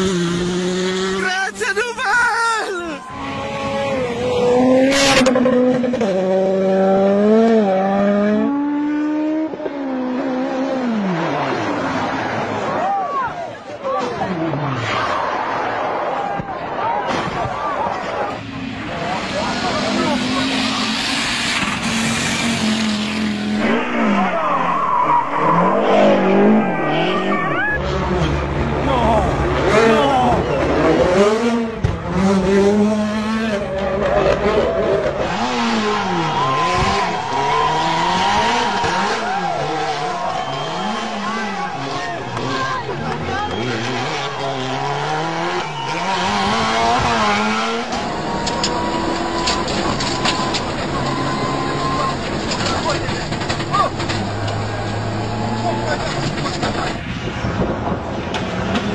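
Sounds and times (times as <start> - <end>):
rally car engine revving: 0.0 - 1.6, 3.0 - 12.8, 17.1 - 58.9
car engine droning under load: 3.0 - 12.8, 14.5 - 58.9.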